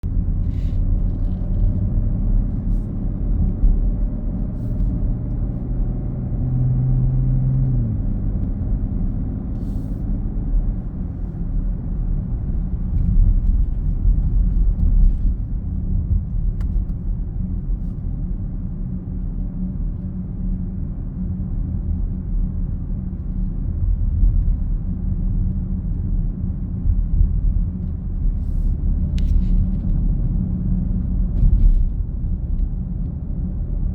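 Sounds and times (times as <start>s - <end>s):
droning rumble inside car cabin: 0.0s - 33.9s.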